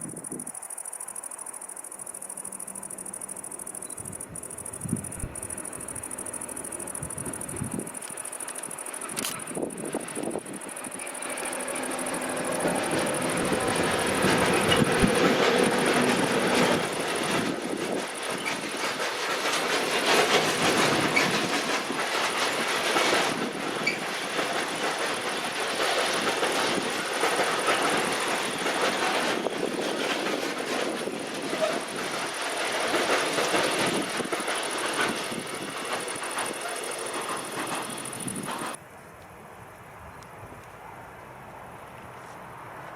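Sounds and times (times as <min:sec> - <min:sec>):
train wheels rumbling on rail: 0:00.0 - 0:38.9
clatter over rail joints: 0:02.9 - 0:38.8.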